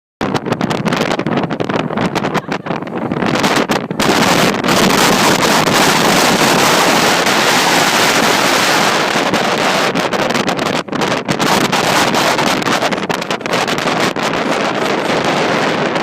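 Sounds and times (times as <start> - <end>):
strong wind on microphone: 0.2 - 16.0.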